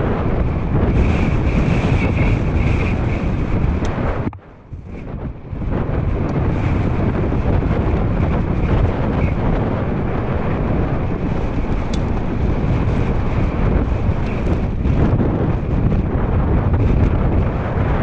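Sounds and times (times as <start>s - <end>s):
bike rattling: 0.0s - 18.0s
wind buffeting microphone: 0.0s - 18.0s.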